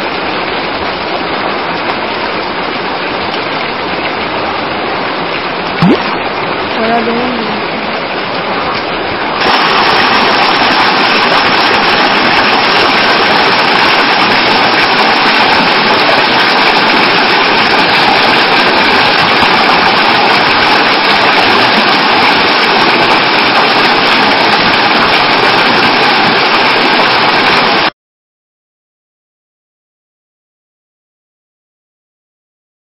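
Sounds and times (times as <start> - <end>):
water gushing from a spring: 0.0 - 27.9.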